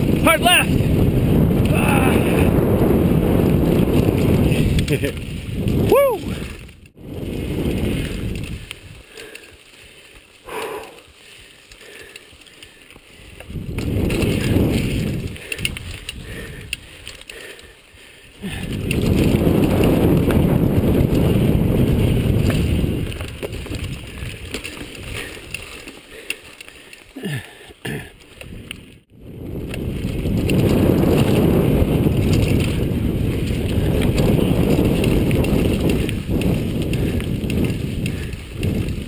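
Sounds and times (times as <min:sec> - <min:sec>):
low rumble of wind: 0:00.0 - 0:39.0
tyres on dirt trail: 0:00.0 - 0:39.0
bike chain rattling and clicking: 0:02.4 - 0:39.0.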